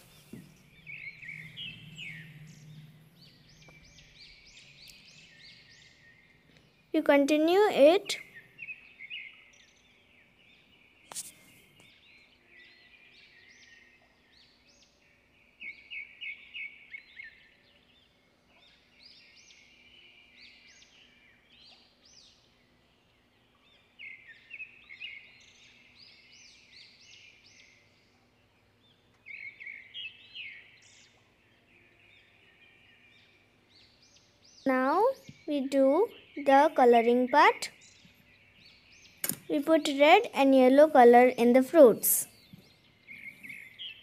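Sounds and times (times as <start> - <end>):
faint small birds chirping: 0.0 - 44.0.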